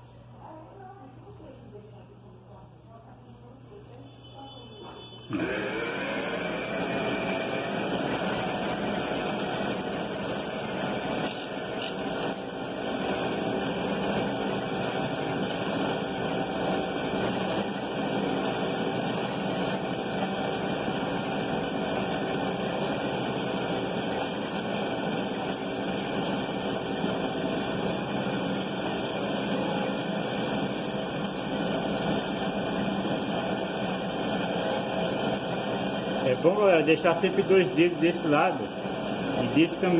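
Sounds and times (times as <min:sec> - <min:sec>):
electric motor running: 0:05.2 - 0:39.9.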